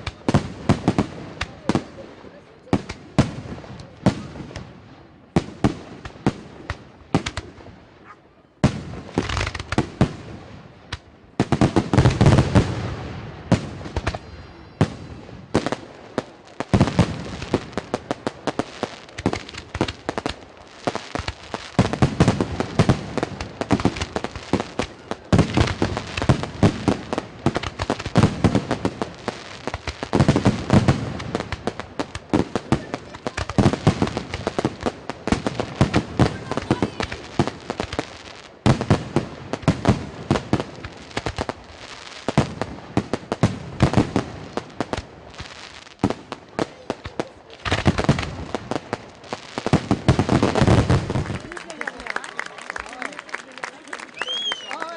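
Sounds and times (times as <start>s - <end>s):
fireworks bangs and booms: 0.0s - 52.2s
fireworks crackling: 0.0s - 54.9s.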